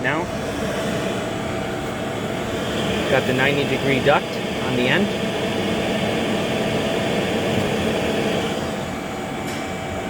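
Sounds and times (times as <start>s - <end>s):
faint hum: 0.0s - 10.0s
heater blower rushing air: 0.0s - 10.0s.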